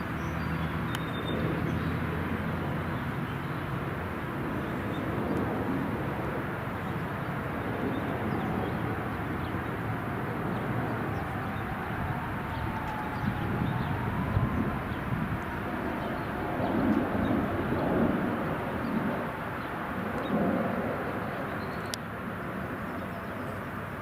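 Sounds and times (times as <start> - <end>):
airplane engines rumbling: 0.0 - 24.0
faint engine whine: 0.0 - 24.0.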